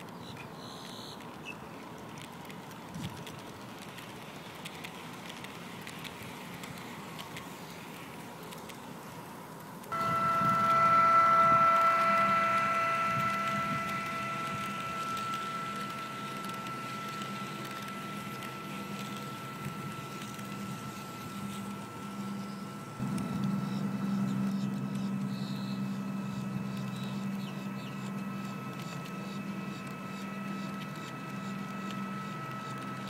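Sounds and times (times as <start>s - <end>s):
wheels rattling on track: 0.0s - 33.0s
model train motor whine: 2.1s - 33.0s.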